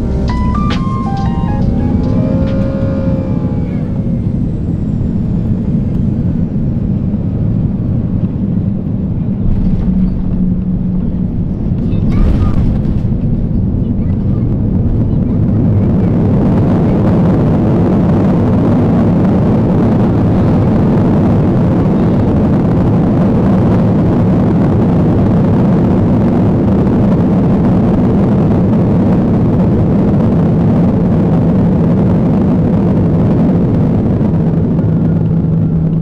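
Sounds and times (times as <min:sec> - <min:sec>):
deep rumble of jet engines: 0:00.0 - 0:36.0.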